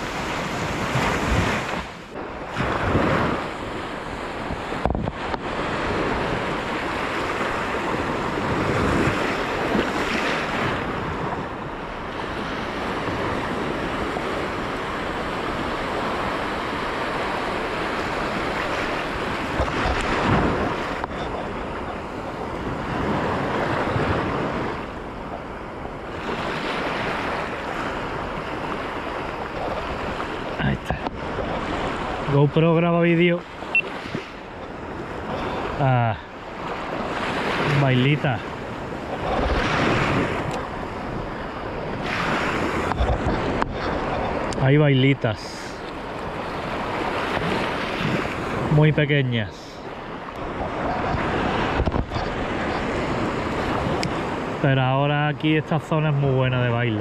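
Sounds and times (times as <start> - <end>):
wind buffeting microphone: 0.0 - 55.8
waves breaking on rocky shore: 0.0 - 57.0.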